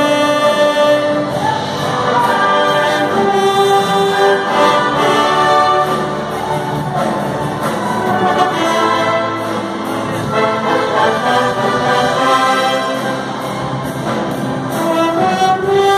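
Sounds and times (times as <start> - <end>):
orchestra playing a hymn: 0.0 - 15.9.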